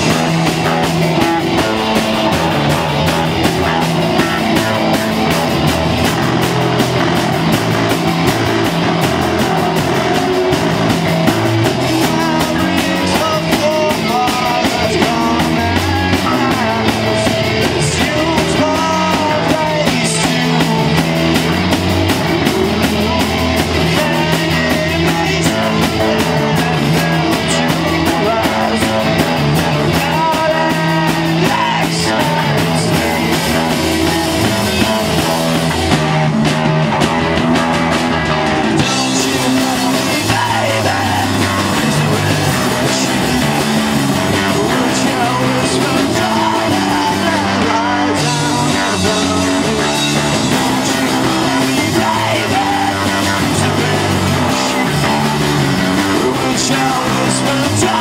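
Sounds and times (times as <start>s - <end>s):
person singing: 0.0s - 36.2s, 38.7s - 58.0s
distorted electric guitars: 0.0s - 58.0s
drum kit: 0.0s - 58.0s.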